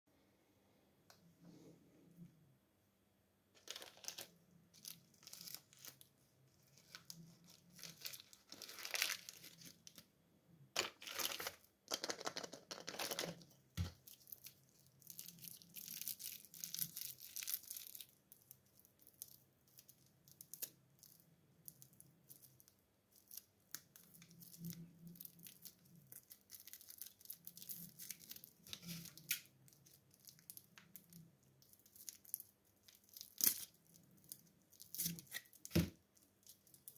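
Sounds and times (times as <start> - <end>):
plastic wrapper crinkling: 3.6 - 10.1, 10.8 - 36.9.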